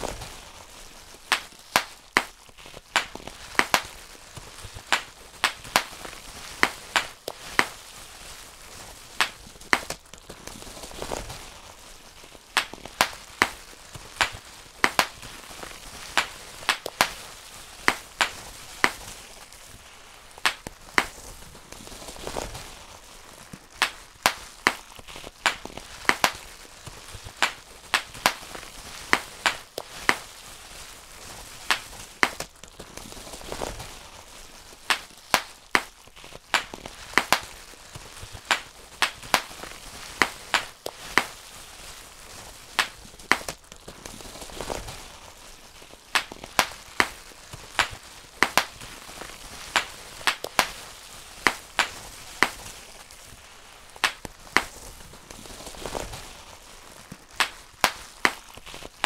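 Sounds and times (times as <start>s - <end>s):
bubble wrap popping: 0.0s - 59.0s
plastic sheet crinkling: 0.0s - 59.0s.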